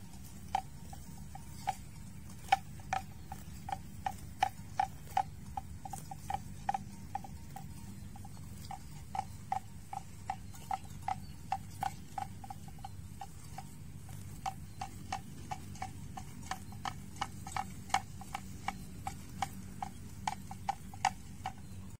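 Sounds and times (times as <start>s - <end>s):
buffalo tearing grass: 0.0s - 10.8s, 11.7s - 21.6s
steady low rumble: 0.0s - 22.0s.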